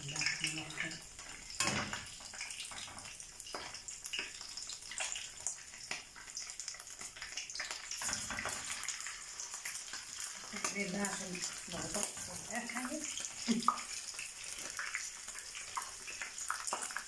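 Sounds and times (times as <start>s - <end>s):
sausage sizzling in oil: 0.0s - 17.0s.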